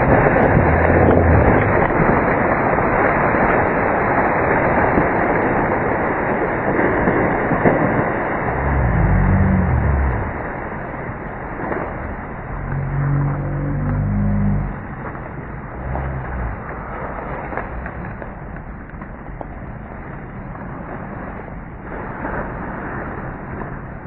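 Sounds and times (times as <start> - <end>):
bike tyres on trail: 0.0 - 24.0
wind buffeting microphone: 0.0 - 24.0.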